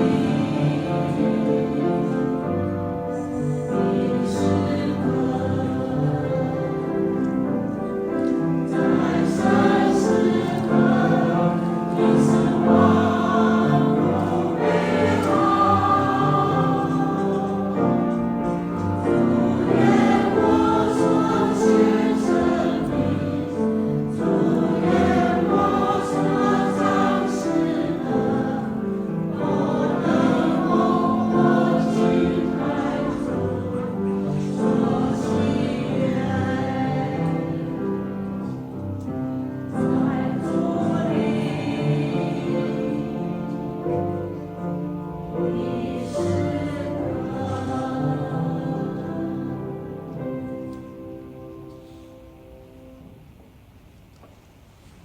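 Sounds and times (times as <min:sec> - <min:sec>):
church choir singing a hymn: 0:00.0 - 0:53.2.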